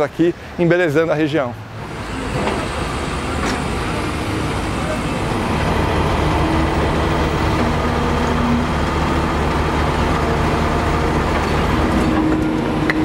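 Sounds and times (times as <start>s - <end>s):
excavator diesel engine drone: 1.7s - 13.0s.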